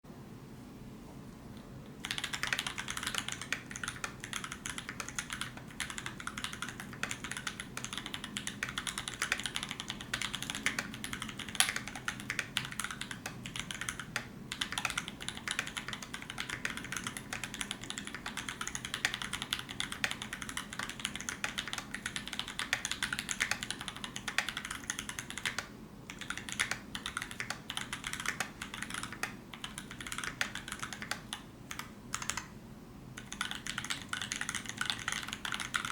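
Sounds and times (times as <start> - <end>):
mechanical keyboard typing: 2.0 - 32.5, 33.2 - 35.9.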